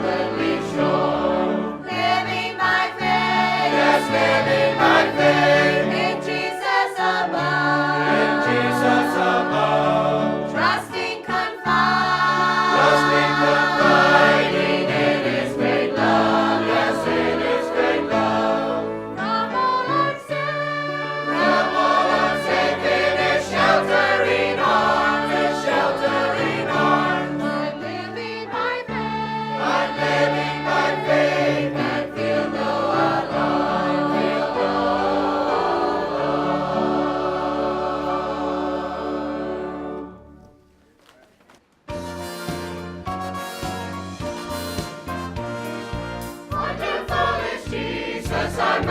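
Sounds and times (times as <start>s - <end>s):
choir singing a gospel hymn: 0.0s - 40.3s, 45.1s - 48.9s.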